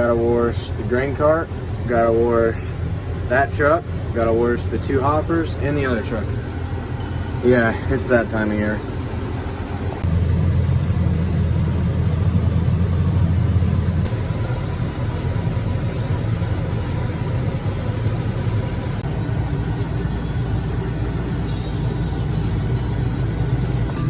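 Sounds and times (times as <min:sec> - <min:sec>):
tractor engine rumbling: 0:00.0 - 0:19.3.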